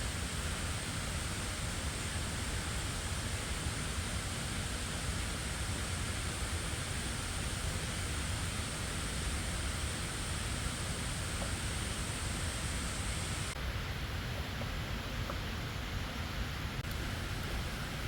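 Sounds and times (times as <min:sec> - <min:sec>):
steady hiss: 0:00.0 - 0:14.0, 0:15.8 - 0:18.0.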